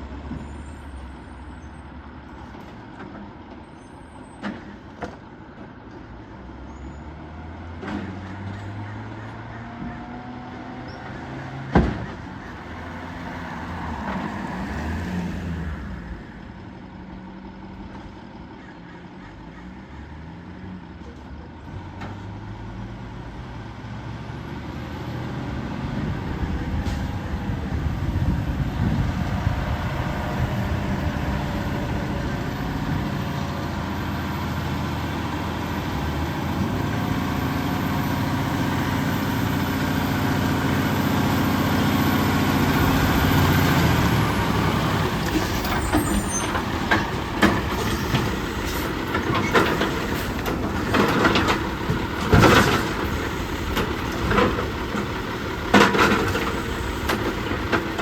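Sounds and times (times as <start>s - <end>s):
garbage truck diesel engine: 0.0s - 58.0s.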